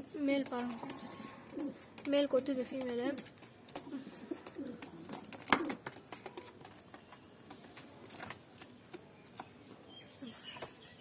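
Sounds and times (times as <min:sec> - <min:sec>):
pigeons pecking in a cage: 0:00.2 - 0:11.0.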